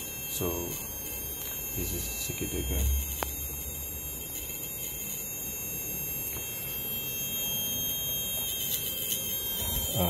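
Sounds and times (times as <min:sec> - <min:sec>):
electrical buzz of relays: 0:00.0 - 0:10.0
high-pitched whines: 0:00.0 - 0:10.0.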